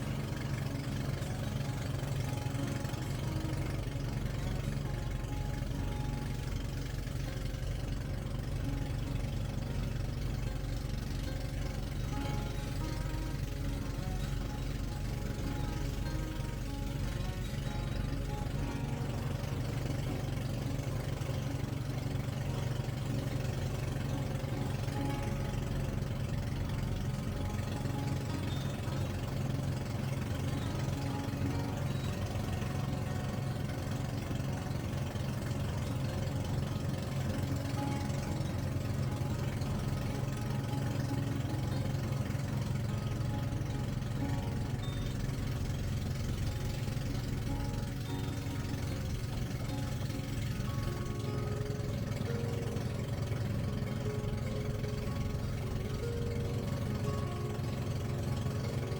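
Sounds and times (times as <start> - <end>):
boat engine chugging: 0.0 - 58.9
music playing: 0.0 - 58.9.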